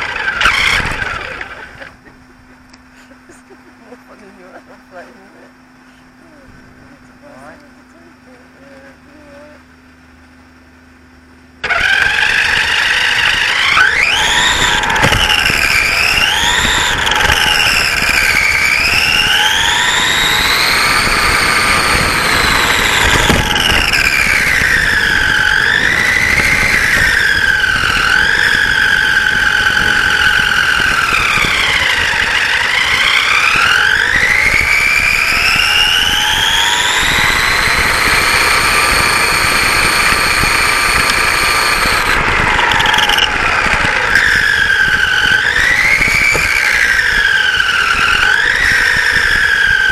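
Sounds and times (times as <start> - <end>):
rc car motor whining: 0.0 - 2.0, 11.6 - 49.9.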